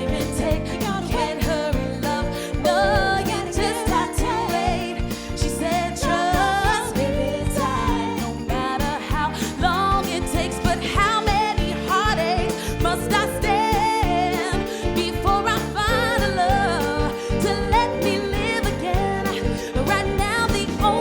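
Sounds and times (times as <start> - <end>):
live band playing soul song: 0.0 - 21.0
woman singing with vibrato: 0.0 - 21.0.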